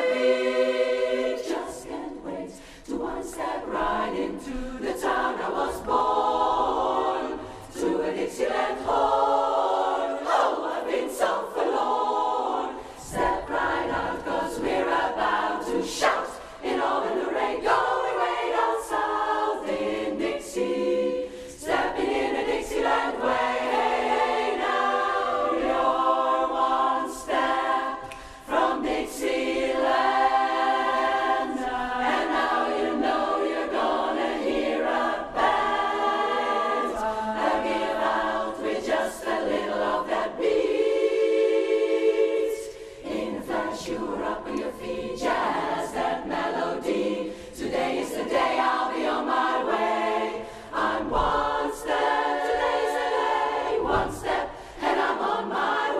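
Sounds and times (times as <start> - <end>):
women's chorus singing a cappella: 0.0 - 55.9.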